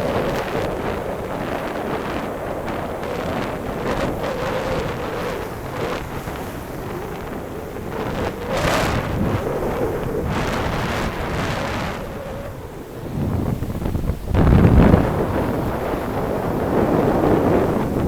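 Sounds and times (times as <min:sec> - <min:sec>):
sea waves on beach: 0:00.0 - 0:18.0
wind buffeting microphone: 0:00.0 - 0:18.0.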